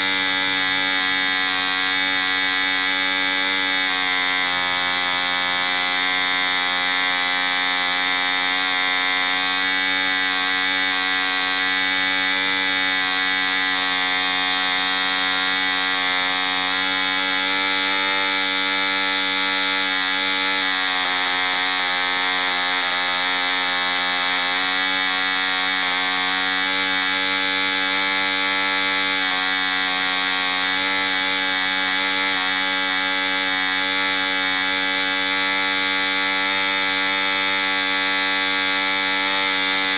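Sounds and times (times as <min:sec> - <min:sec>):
model engine running with propeller: 0:00.0 - 0:39.9.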